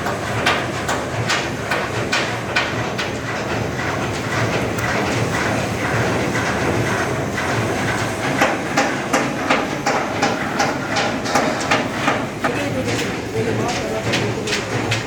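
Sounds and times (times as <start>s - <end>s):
workshop din: 0.0s - 15.0s.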